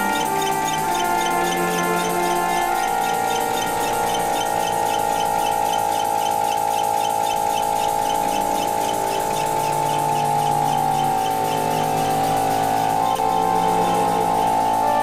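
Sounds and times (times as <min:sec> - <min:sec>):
faint quick ticking: 0:00.0 - 0:15.0
held orchestral chords: 0:00.0 - 0:15.0.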